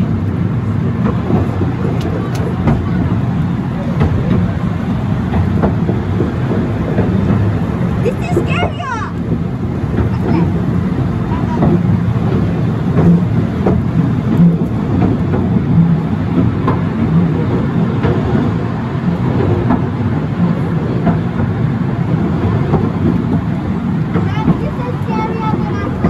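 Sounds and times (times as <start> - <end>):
railway carriage rumbling on track: 0.0 - 26.0
wheels knocking: 0.0 - 26.0.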